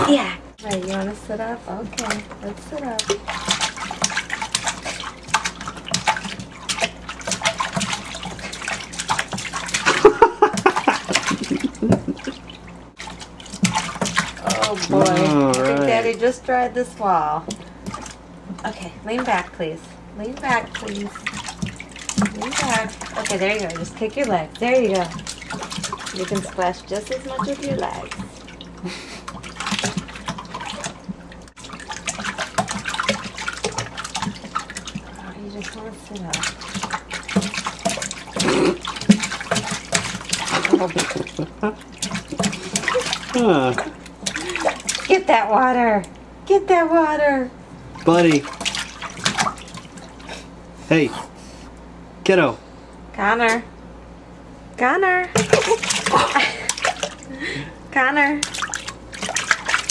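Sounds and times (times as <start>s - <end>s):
baby splashing bathwater: 0.0s - 47.1s, 47.9s - 51.1s, 55.3s - 59.9s.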